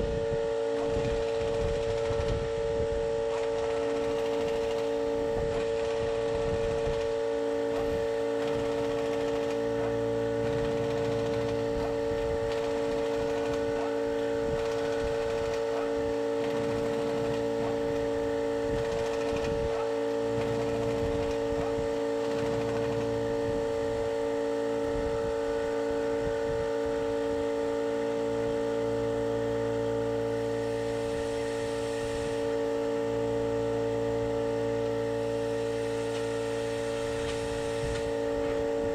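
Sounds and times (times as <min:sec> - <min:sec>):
machine humming: 0:00.0 - 0:38.9.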